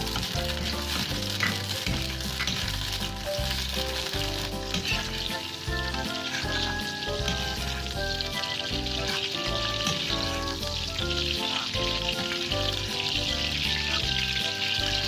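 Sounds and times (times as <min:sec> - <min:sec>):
background music with bass: 0:00.0 - 0:15.0
meat sizzling in a pan: 0:00.0 - 0:15.0.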